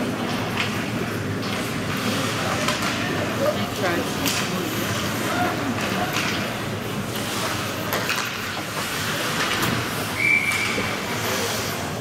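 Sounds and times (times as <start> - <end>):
hockey sticks and puck knocking: 0.1 - 3.3, 4.1 - 10.9
skate blades scraping on ice: 0.2 - 12.0.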